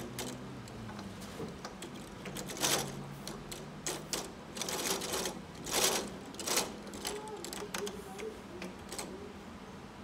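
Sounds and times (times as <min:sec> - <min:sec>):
plastic toy gears clattering: 0:00.0 - 0:09.2.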